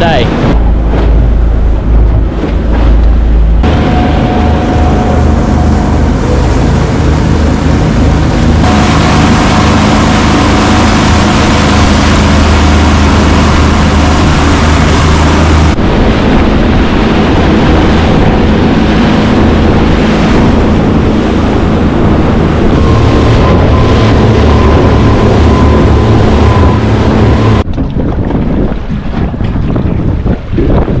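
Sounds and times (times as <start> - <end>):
water churning in wake: 0.0 - 31.0
outboard motor running: 0.4 - 28.2.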